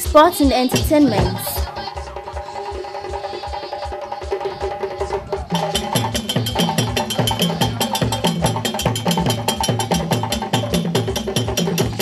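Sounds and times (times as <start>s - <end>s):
background music with percussion beat: 0.0s - 12.0s.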